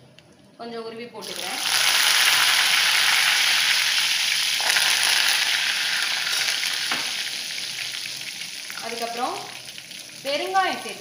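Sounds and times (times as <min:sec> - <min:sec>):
leaves sizzling in hot oil: 0:01.2 - 0:11.0.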